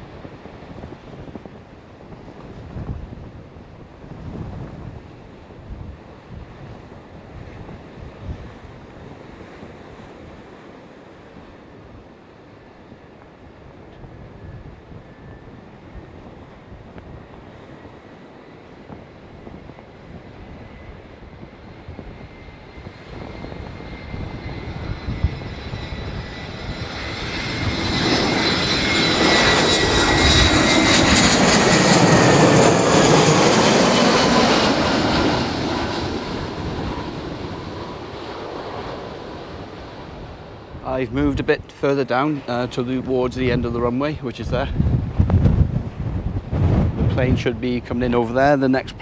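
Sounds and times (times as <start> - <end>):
jet airliner flying past: 0.0 - 49.0
jet engine whine: 0.0 - 49.0.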